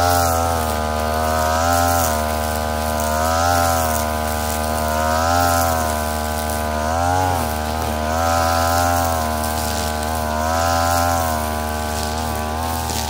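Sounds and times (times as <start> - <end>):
brushcutter engine running: 0.0 - 13.0
trimmer line cutting grass: 0.0 - 13.0.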